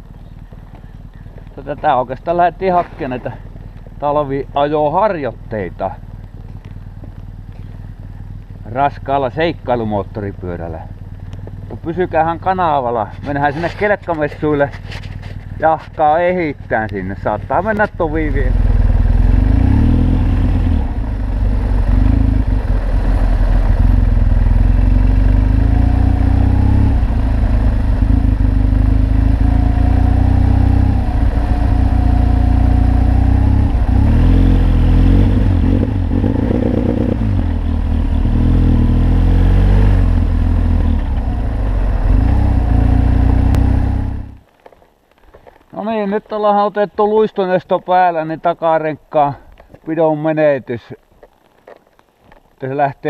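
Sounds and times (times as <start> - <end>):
motorcycle engine: 0.0 - 44.7.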